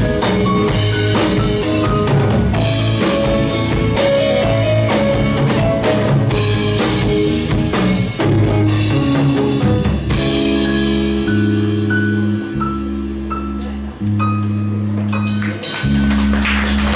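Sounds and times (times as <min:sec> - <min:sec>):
rock band playing: 0:00.0 - 0:16.9.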